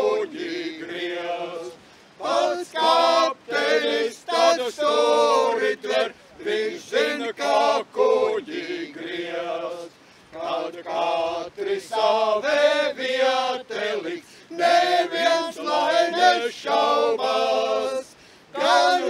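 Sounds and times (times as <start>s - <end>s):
men singing a cappella: 0.0s - 19.0s.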